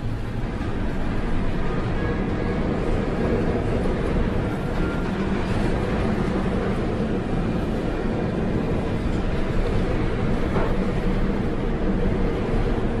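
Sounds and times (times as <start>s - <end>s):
heavy seas: 0.0s - 13.0s
wind: 0.0s - 13.0s.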